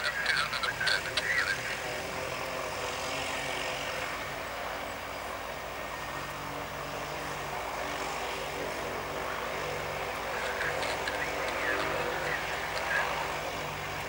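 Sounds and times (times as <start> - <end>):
turboprop engine running: 0.0 - 14.0.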